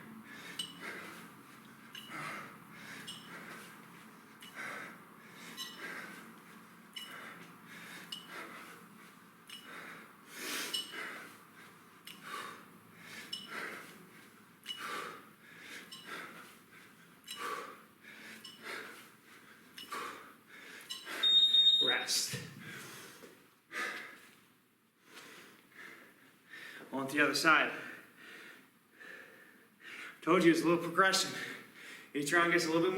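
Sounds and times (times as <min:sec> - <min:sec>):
person breathing hard: 0:00.0 - 0:21.4, 0:22.5 - 0:24.4, 0:25.0 - 0:26.9, 0:27.7 - 0:30.2, 0:31.3 - 0:32.1.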